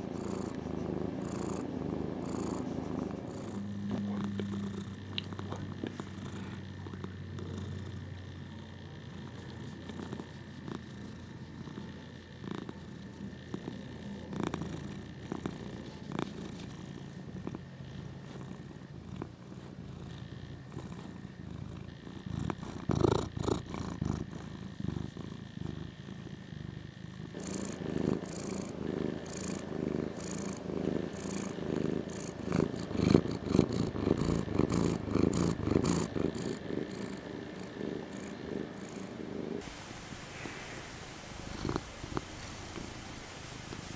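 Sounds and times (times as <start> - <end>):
cat purring: 0.0 - 39.7, 41.4 - 43.0.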